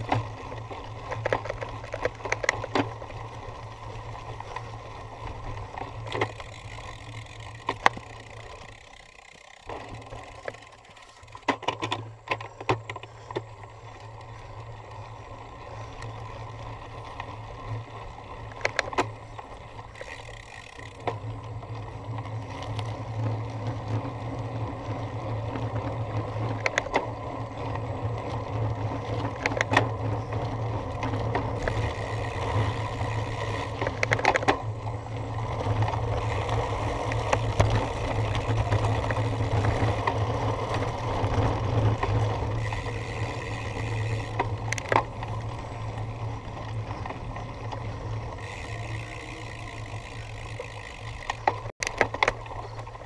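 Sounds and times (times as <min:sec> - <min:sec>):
bike rattling and knocking: 0:00.0 - 0:53.0
bike tyres rolling on rough ground: 0:00.0 - 0:53.0.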